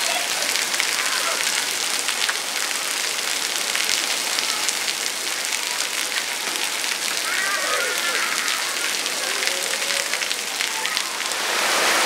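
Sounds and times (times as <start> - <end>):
water pattering on a surface: 0.0 - 12.0.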